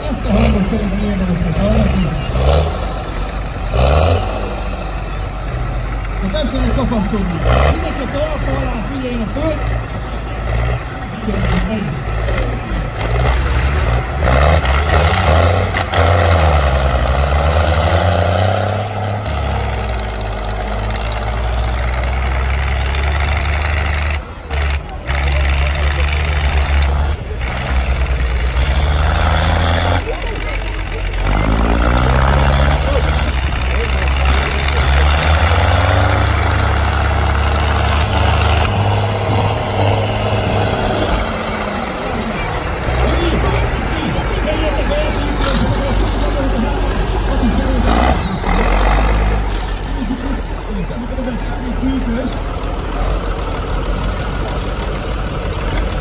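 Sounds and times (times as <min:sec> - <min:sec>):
tractor diesel engines revving: 0:00.0 - 0:56.0.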